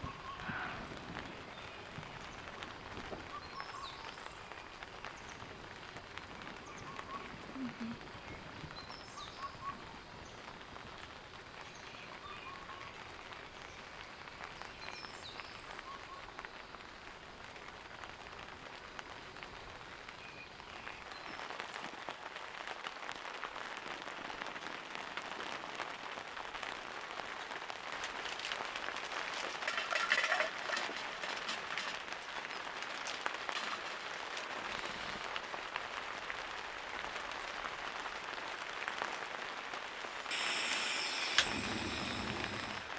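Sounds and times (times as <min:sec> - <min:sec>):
steady rainfall: 0:00.0 - 0:42.9.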